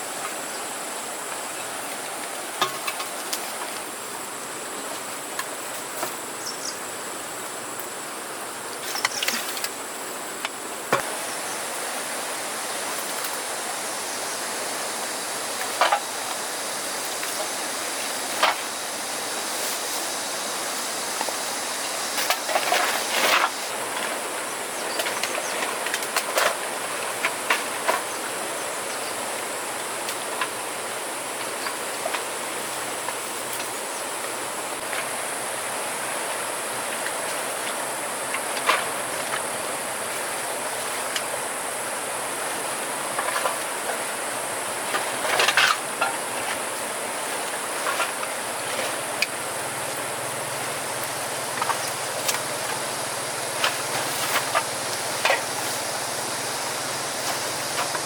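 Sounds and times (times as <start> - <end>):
outdoor hiss: 0.0 - 58.0.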